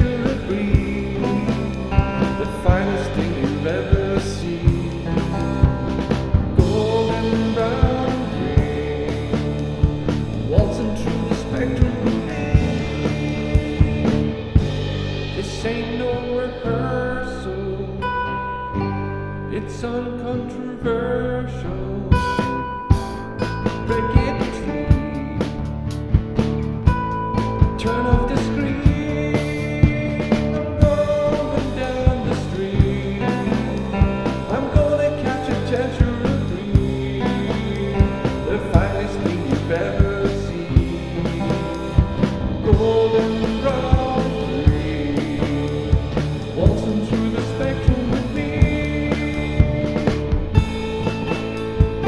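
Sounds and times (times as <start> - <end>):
drum kit beat: 0.0 - 16.5, 22.2 - 52.0
rock music: 0.0 - 20.8, 21.8 - 52.0.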